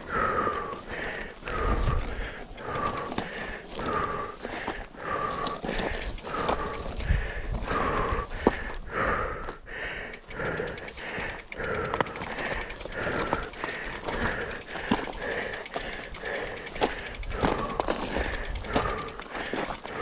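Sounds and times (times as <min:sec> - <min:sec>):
person breathing hard: 0:00.0 - 0:20.0
fast even ticking: 0:01.4 - 0:08.2, 0:09.8 - 0:20.0.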